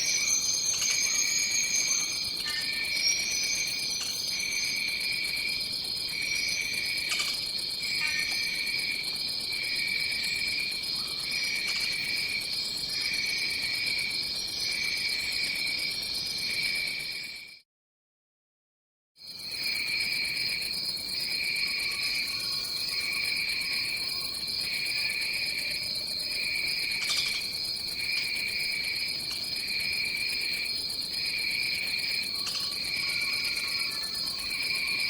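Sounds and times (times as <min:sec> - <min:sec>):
lower pulsing insect trill: 0:00.0 - 0:17.5, 0:19.2 - 0:35.0.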